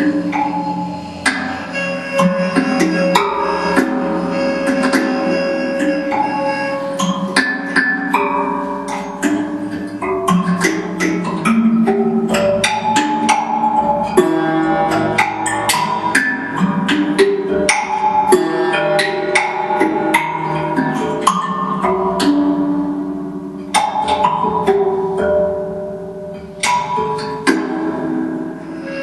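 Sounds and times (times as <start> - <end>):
plucked metallic notes: 0.0 - 29.0.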